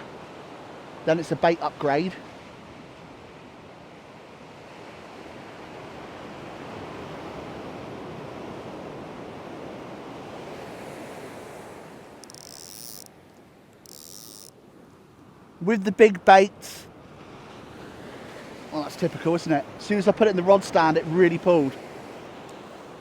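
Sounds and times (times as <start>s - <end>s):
wave washing up on beach: 0.0s - 12.3s, 15.6s - 23.0s.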